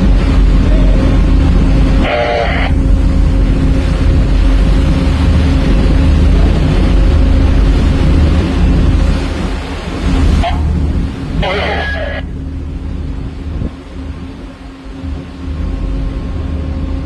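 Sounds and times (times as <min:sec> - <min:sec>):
marine diesel engines rumbling: 0:00.0 - 0:17.0.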